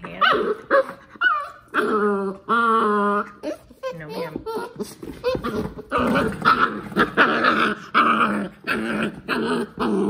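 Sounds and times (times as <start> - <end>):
puppy growling: 0.0 - 10.0.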